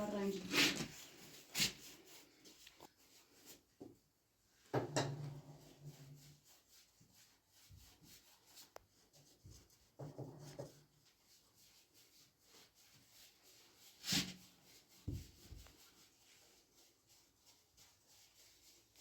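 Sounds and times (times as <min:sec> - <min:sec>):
rubbing strokes on a surface: 0:00.0 - 0:04.4, 0:05.4 - 0:19.0.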